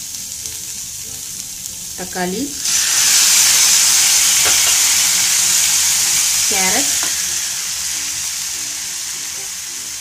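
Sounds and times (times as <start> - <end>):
tomato sizzling in hot oil: 0.0 - 10.0.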